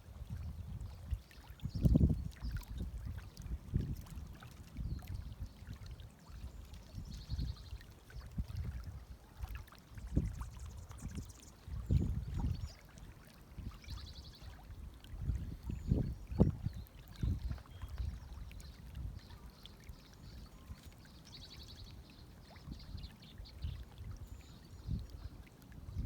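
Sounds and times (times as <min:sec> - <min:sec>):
wind rumbling on microphone: 0:00.0 - 0:09.2, 0:09.9 - 0:12.8, 0:13.5 - 0:26.0.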